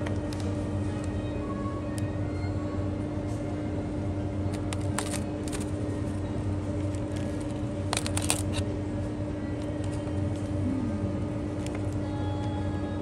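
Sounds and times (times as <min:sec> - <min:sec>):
cooling equipment hum: 0:00.0 - 0:13.0.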